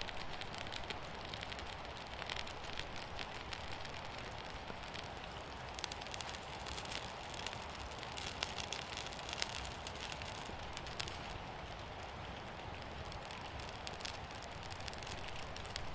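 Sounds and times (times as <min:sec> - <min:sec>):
campfire crackling and popping: 0:00.0 - 0:15.9
fire hissing: 0:00.1 - 0:15.9.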